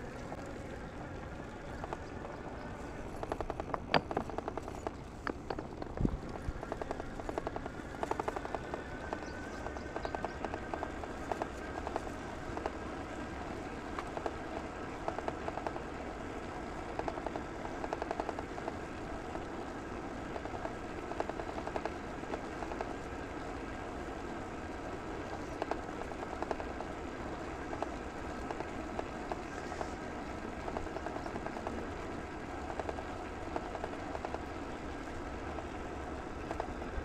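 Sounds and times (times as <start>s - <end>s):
bicycle ticking and rattle: 0.0s - 37.0s.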